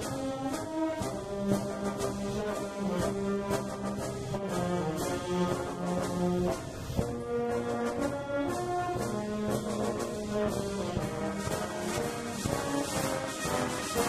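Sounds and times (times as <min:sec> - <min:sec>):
drum strokes: 0:00.0 - 0:14.0
wind band playing a march: 0:00.0 - 0:14.0.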